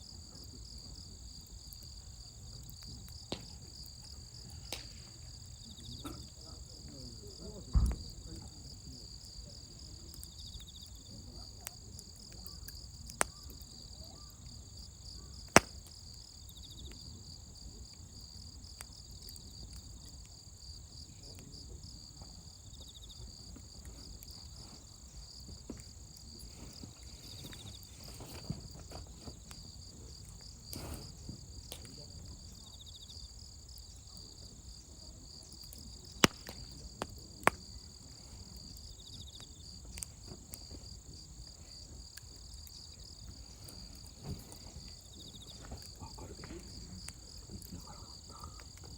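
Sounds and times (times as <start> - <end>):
crickets chirping: 0.0 - 48.9
campfire crackling and popping: 0.1 - 48.9.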